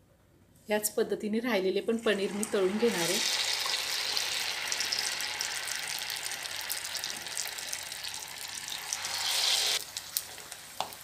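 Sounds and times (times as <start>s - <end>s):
food deep-frying in oil: 2.0s - 11.0s.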